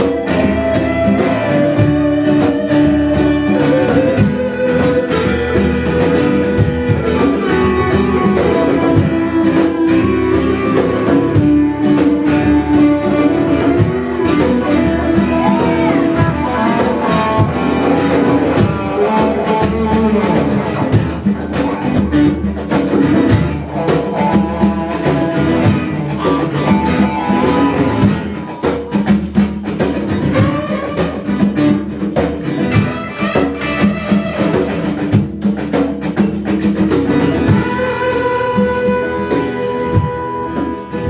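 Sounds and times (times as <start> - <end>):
held melody line: 0.0 - 41.0
strummed guitar: 0.0 - 41.0.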